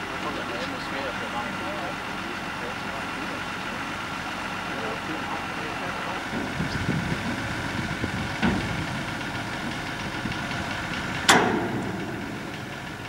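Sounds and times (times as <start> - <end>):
engine knocking: 0.0 - 13.0
tractor engine idling: 0.0 - 13.0.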